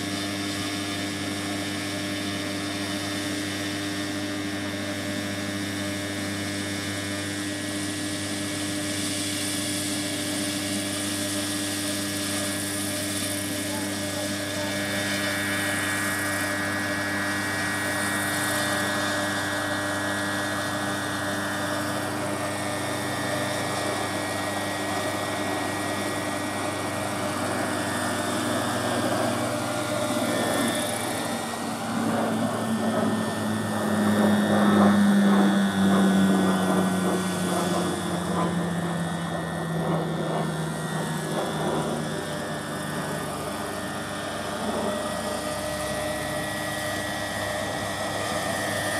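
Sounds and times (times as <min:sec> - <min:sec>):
model helicopter motor and rotor: 0:00.0 - 0:48.9.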